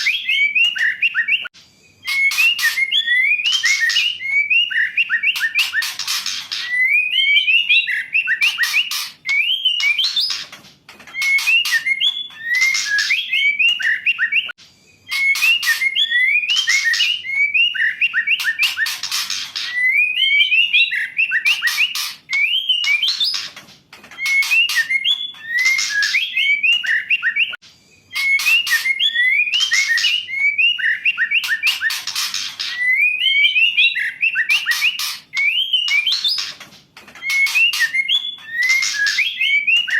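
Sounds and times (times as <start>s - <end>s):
bird whistled calls: 0.0s - 10.4s, 11.1s - 23.5s, 24.2s - 36.6s, 37.2s - 39.9s.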